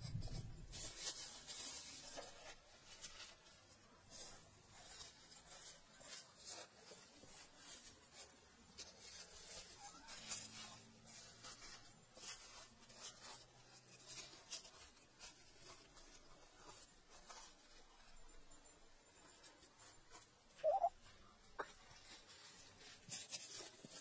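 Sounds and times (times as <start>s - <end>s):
dry soil scratching and crumbling: 0.0s - 24.0s.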